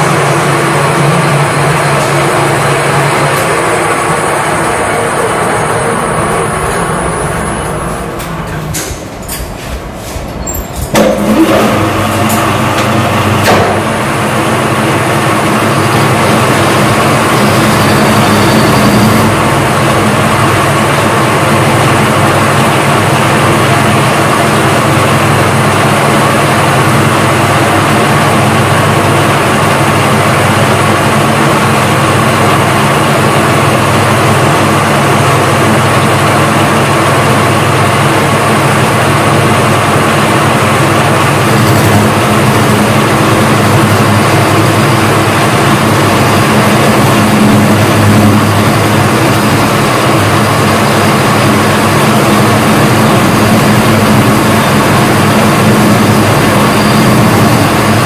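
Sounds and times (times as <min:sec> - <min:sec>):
lathe machine hum: 0:00.0 - 0:58.0.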